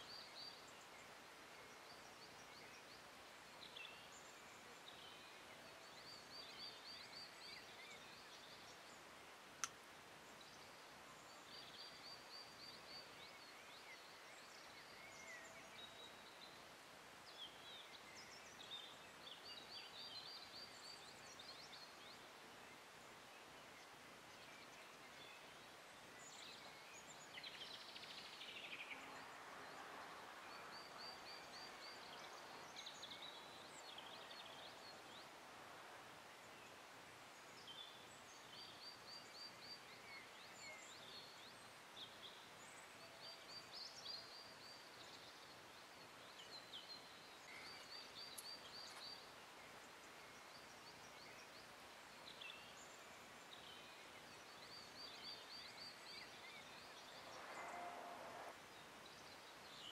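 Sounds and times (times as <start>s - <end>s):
small birds trilling and chirping: 0.0s - 59.9s.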